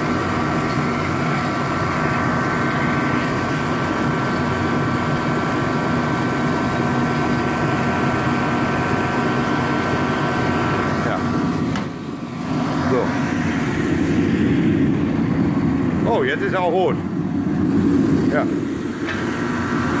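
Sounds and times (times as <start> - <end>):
heater blower fan rushing: 0.0 - 20.0
steady whine: 0.0 - 20.0.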